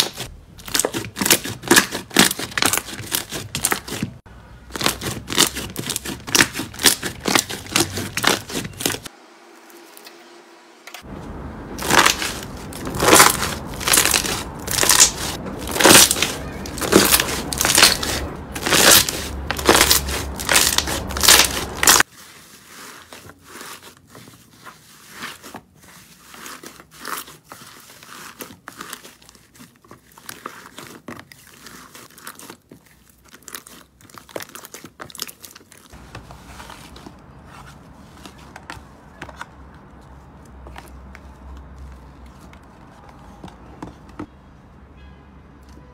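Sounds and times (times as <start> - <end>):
slime squishing: 0.0 - 9.1, 11.8 - 44.3.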